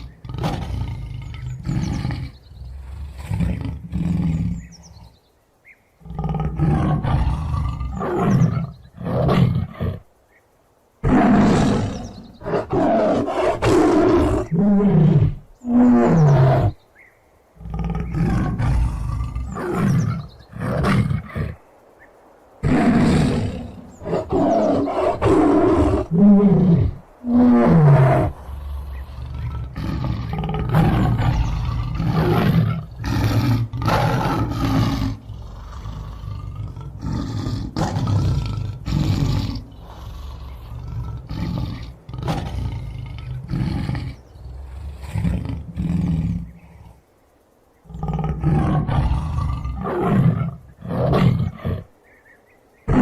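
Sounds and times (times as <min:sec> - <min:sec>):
tiger roaring: 0:00.0 - 0:05.2, 0:06.0 - 0:10.1, 0:11.0 - 0:16.8, 0:17.6 - 0:21.7, 0:22.6 - 0:47.2, 0:47.8 - 0:52.0.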